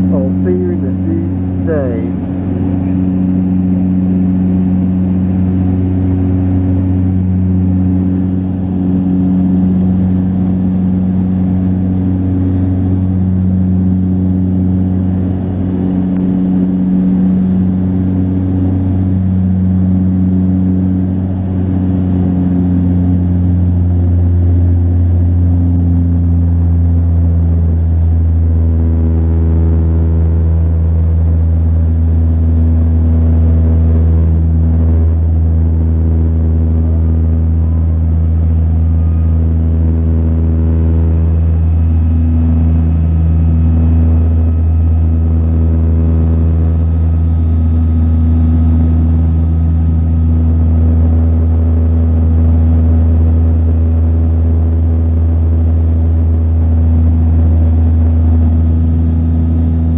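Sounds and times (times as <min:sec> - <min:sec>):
propeller engines droning in cabin: 0:00.0 - 0:59.9.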